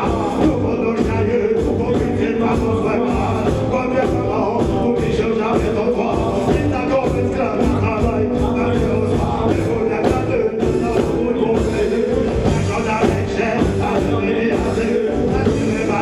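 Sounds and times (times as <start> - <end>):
drums: 0.0 - 16.0
electric guitar: 0.0 - 16.0
keyboards: 0.0 - 16.0
person singing: 0.0 - 16.0
reggae band playing: 0.0 - 16.0.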